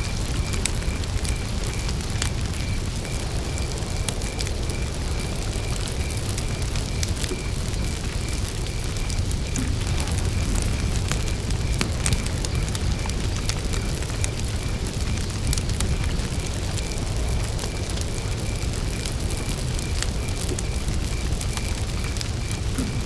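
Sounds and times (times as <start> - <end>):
campfire crackling and popping: 0.0 - 23.0
cricket chirping: 0.0 - 23.0.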